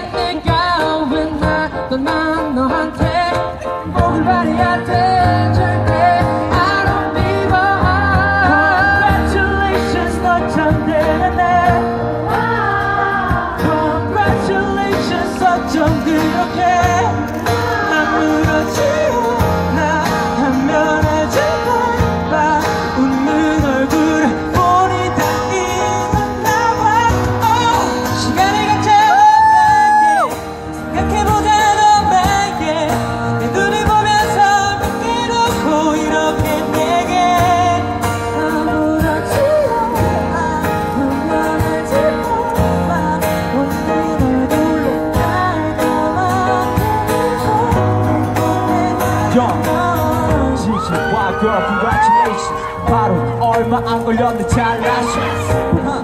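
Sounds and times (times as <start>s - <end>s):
acoustic guitars: 0.0s - 56.0s
men singing a pop ballad: 0.0s - 56.0s.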